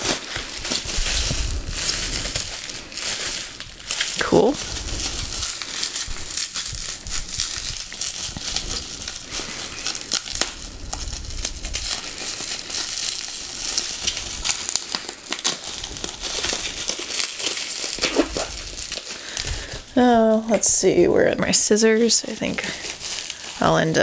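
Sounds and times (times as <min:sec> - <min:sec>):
bubble wrap crinkling: 0:00.0 - 0:24.0.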